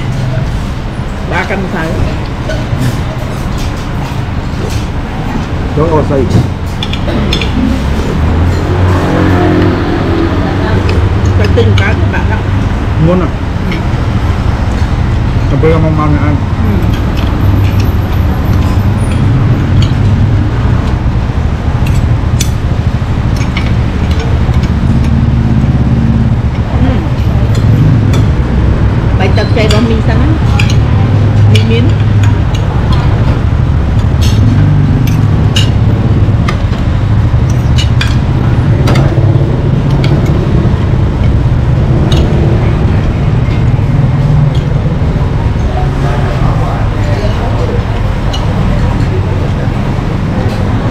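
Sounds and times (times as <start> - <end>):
low rumbling background noise: 0.0 - 50.9.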